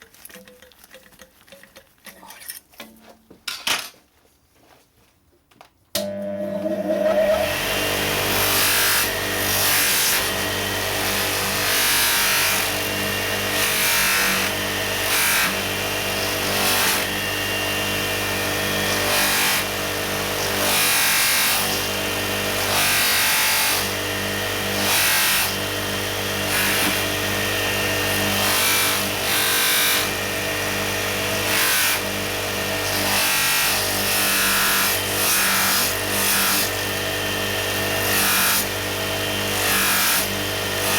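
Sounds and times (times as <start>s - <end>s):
bench grinder running: 6.0s - 40.9s.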